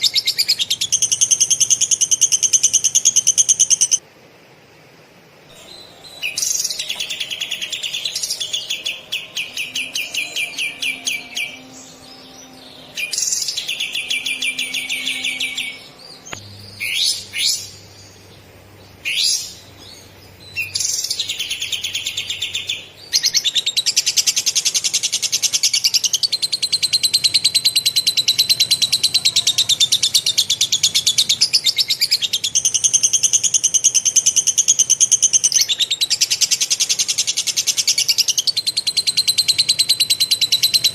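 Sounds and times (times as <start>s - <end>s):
songbird trilling: 0.0s - 4.0s, 5.6s - 17.8s, 19.0s - 40.9s.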